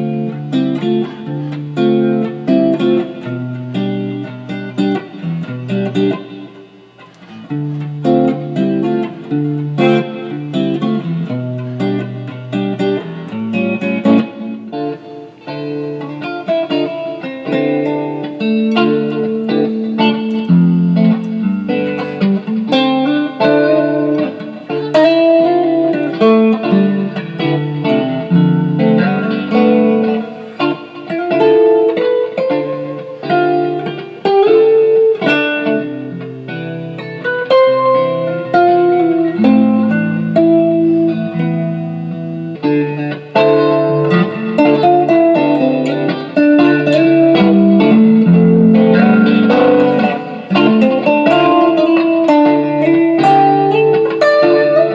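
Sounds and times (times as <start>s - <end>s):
electric guitar playing: 0.0s - 54.9s.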